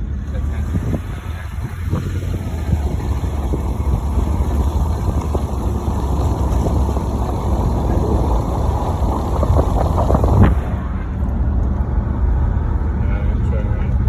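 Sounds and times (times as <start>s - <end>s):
road and engine rumble: 0.0s - 14.0s
light rattles: 0.1s - 11.9s.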